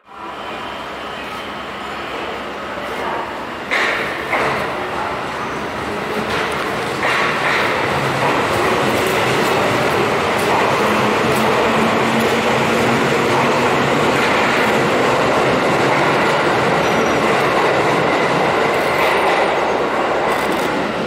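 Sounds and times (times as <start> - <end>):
train wheels running on rail: 0.1 - 21.0.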